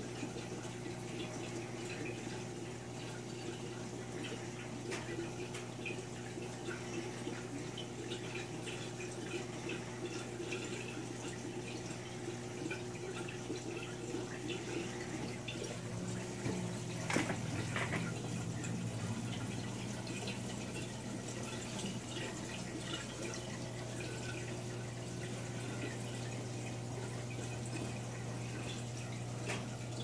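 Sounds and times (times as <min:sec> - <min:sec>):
aquarium water trickling: 0:00.0 - 0:30.0
steady low hum: 0:00.3 - 0:30.0.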